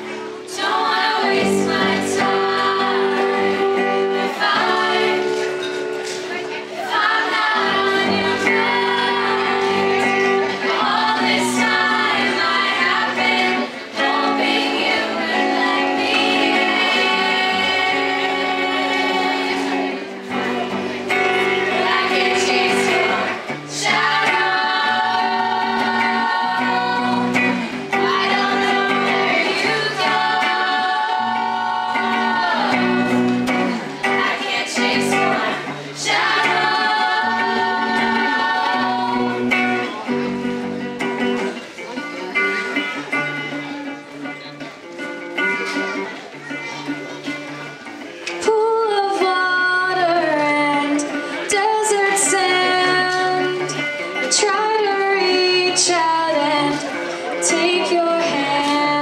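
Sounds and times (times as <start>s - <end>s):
girls singing in harmony: 0.0s - 40.8s, 48.4s - 59.0s
instrumental accompaniment: 0.0s - 59.0s.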